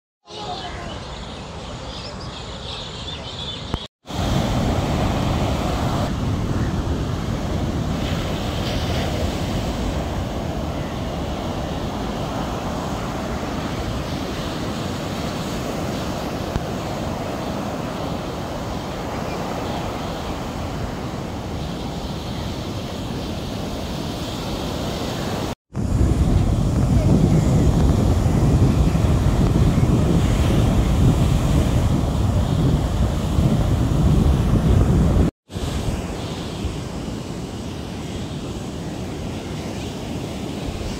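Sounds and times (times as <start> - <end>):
ocean surf washing on beach: 4.0 - 40.9
wind buffeting microphone: 4.1 - 40.9.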